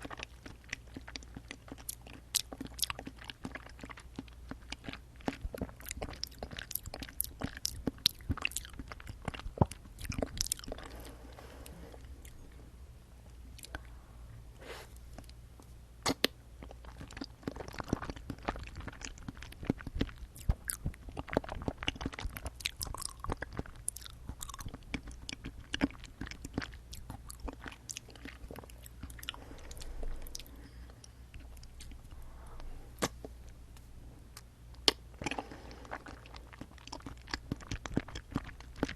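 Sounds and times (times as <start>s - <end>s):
wet chewing and biting: 0.0s - 11.1s, 16.0s - 30.7s, 31.3s - 38.9s
steady low hum: 0.0s - 38.9s.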